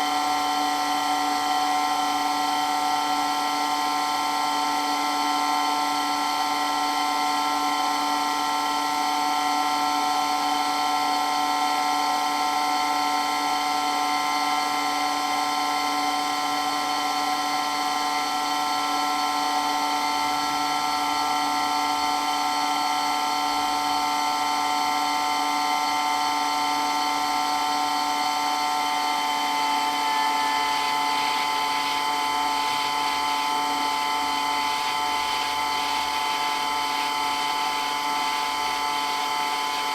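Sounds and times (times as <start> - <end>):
water pump high whine: 0.0 - 39.9.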